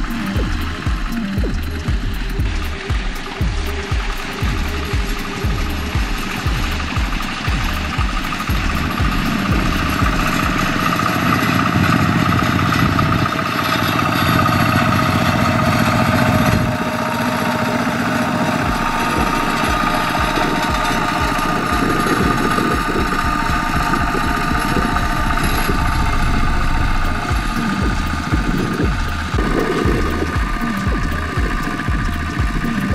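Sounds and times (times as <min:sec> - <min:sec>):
diesel tractor engine running: 0:00.0 - 0:32.9.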